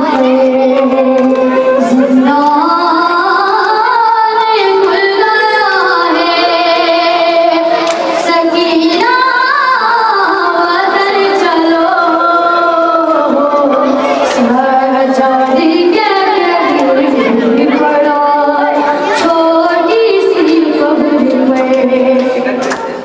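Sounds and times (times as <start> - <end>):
boy singing a lament: 0.0 - 22.6.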